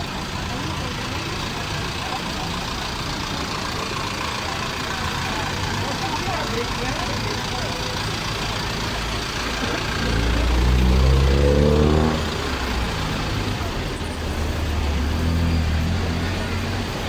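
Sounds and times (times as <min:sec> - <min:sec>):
low engine rumble: 0:00.0 - 0:17.0
street noise: 0:00.0 - 0:17.0
vehicle engine revving: 0:00.0 - 0:17.0.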